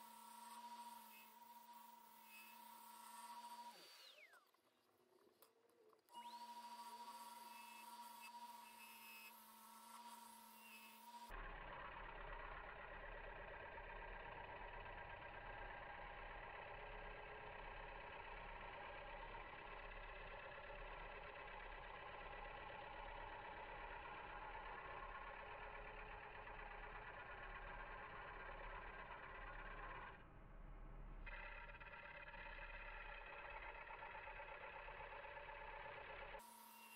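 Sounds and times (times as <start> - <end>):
wood lathe running: 0.0 - 4.5, 6.1 - 30.2, 31.2 - 36.9
turning tool cutting wood: 0.0 - 4.7, 5.4 - 11.4, 16.8 - 30.2, 31.2 - 36.9.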